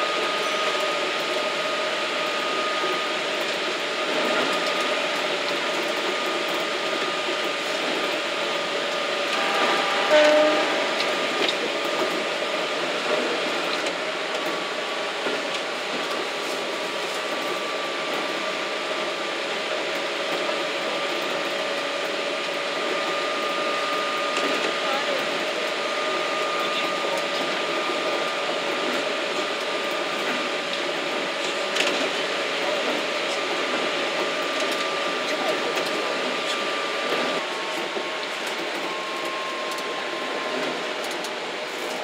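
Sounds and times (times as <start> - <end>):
train rushing noise: 0.0 - 42.0
train whine: 0.0 - 42.0.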